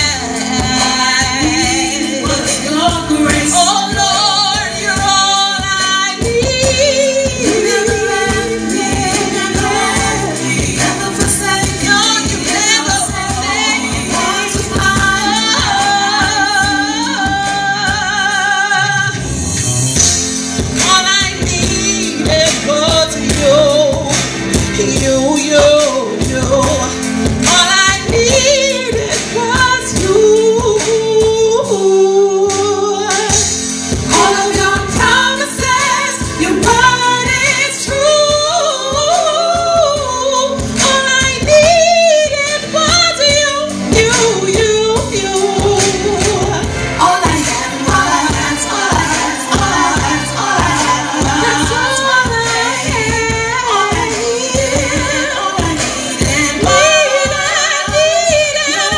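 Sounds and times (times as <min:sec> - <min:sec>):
woman singing into a microphone: 0:00.0 - 0:19.2, 0:20.7 - 0:58.9
instrumental backing with steady beat: 0:00.0 - 0:58.9.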